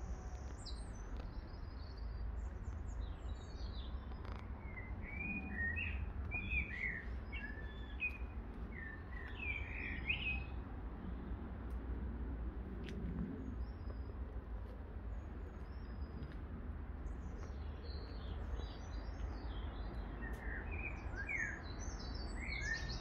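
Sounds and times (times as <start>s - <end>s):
small birds chirping: 0.0s - 11.4s, 12.8s - 23.0s
low background rumble: 0.0s - 20.4s.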